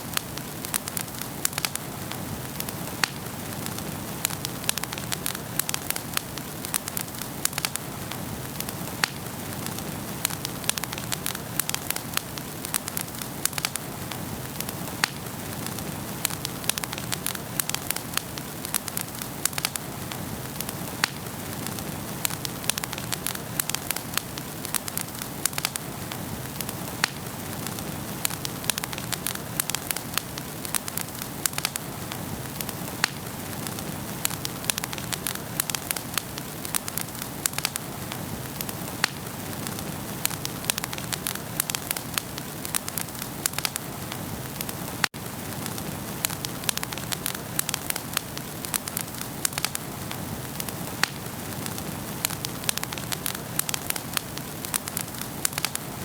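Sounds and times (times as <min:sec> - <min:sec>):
soft fire hiss: 0:00.0 - 0:56.0
wood fire crackling and popping: 0:00.0 - 0:56.0.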